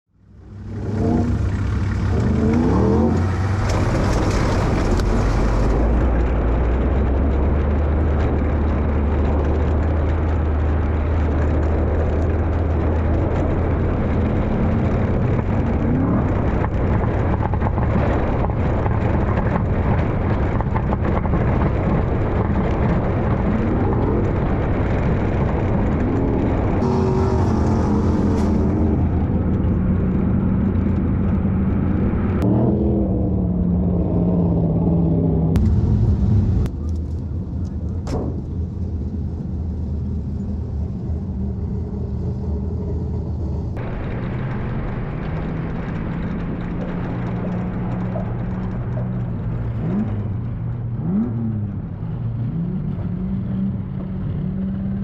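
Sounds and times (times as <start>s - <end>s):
race car engine running hard: 0.2s - 55.0s.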